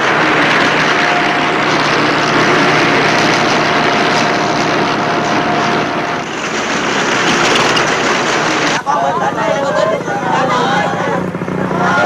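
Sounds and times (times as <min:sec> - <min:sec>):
loud engine noise: 0:00.0 - 0:12.0.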